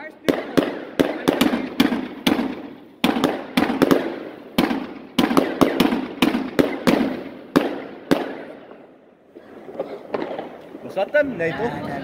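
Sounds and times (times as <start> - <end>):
fireworks bursting with sharp bangs: 0.0 - 10.9.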